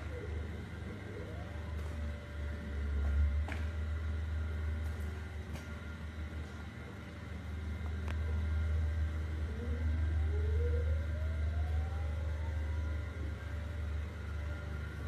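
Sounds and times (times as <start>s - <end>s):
machine motor whine: 0.0s - 15.0s
steady low rumble: 0.0s - 15.0s.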